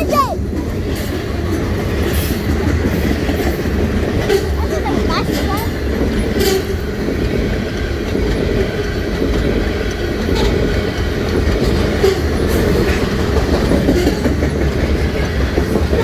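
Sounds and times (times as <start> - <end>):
freight train wheels rumbling: 0.0 - 16.0
sharp clicks of wheels on rail: 0.0 - 16.0.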